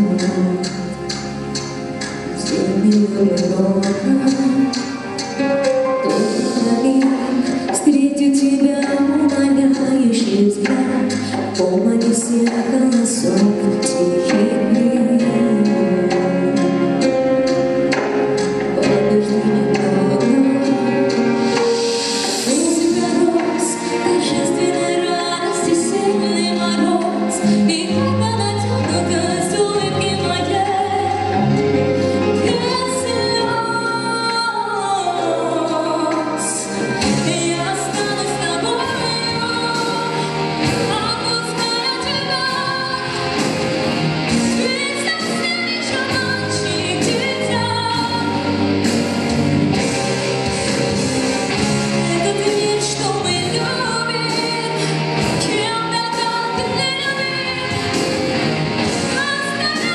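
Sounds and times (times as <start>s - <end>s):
woman singing: 0.0s - 1.2s, 2.3s - 5.4s, 6.0s - 17.4s, 18.3s - 21.8s, 22.4s - 49.1s, 52.0s - 59.9s
backing music: 0.0s - 59.9s.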